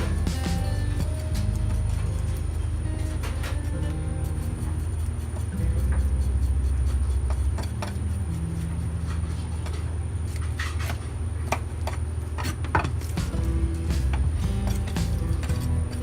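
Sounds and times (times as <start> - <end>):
loud low hum: 0.0 - 11.8, 13.0 - 16.0.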